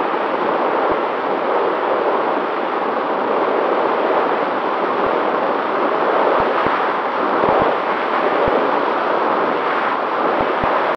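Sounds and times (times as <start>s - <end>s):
low thumps of wind buffeting: 0.0s - 10.9s
wind rushing: 0.0s - 10.9s.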